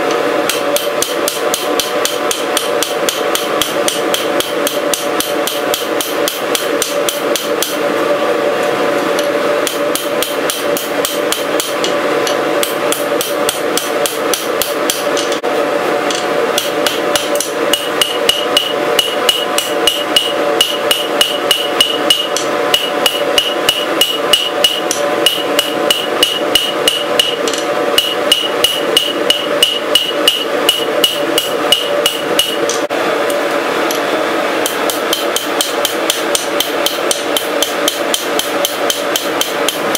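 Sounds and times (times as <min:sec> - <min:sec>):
steady hum: 0:00.0 - 0:39.9
hammer striking steel on anvil: 0:00.5 - 0:07.8, 0:09.6 - 0:15.4, 0:16.1 - 0:32.9, 0:34.6 - 0:39.9.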